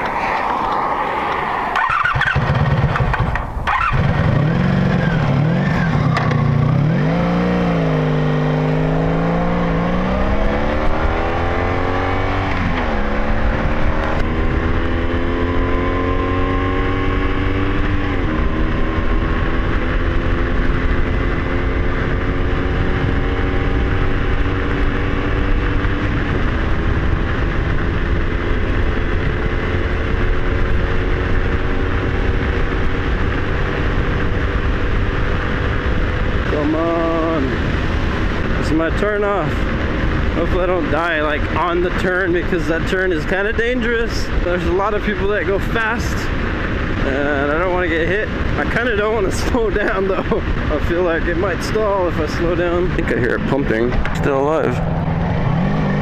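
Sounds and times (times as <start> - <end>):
wind rush: 0.0 - 3.7, 4.4 - 56.0
motorcycle engine accelerating: 0.0 - 56.0.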